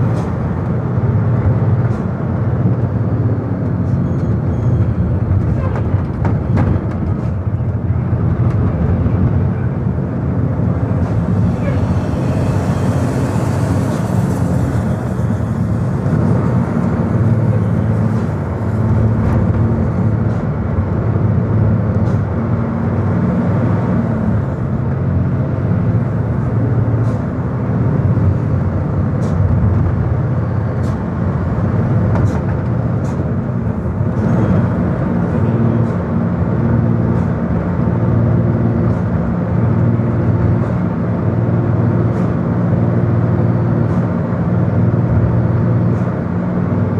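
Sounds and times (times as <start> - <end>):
vehicle engine and road noise: 0.0 - 46.9.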